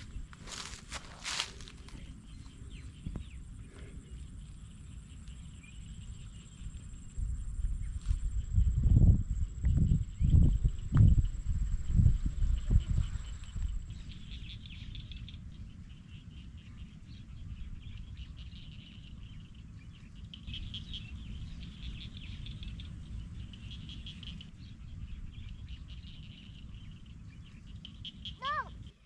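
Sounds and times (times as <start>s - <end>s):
high-pitched chirping chorus: 0.0s - 9.2s, 9.8s - 29.0s
steady low rumble: 0.0s - 28.0s.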